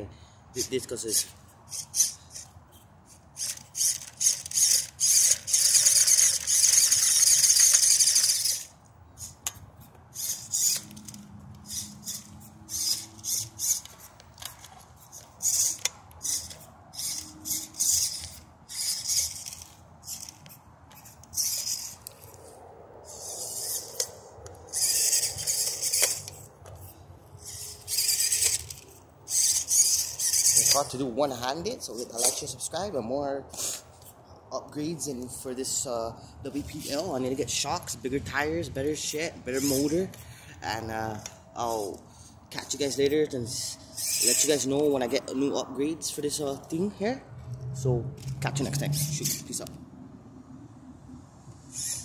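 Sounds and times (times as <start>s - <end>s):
toy truck motor whining: 0.5s - 32.8s, 33.5s - 34.1s, 36.5s - 37.8s, 38.9s - 45.5s, 48.2s - 49.8s, 51.5s - 52.0s.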